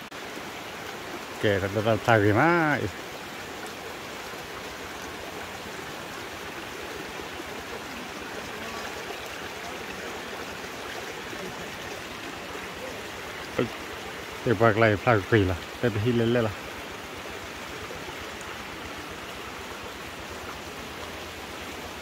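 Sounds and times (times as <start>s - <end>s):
flowing water rushing: 0.0s - 22.0s.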